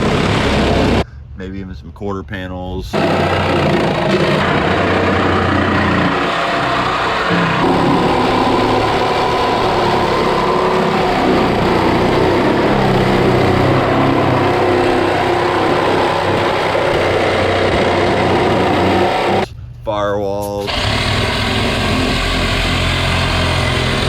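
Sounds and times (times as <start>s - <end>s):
small engine running: 0.0s - 1.0s, 2.9s - 19.5s, 20.7s - 24.0s.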